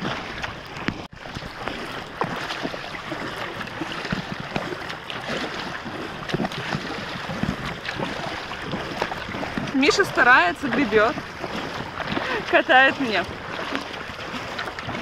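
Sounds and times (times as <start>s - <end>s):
paddle splashing in water: 0.0s - 15.0s
wind on microphone: 0.0s - 15.0s.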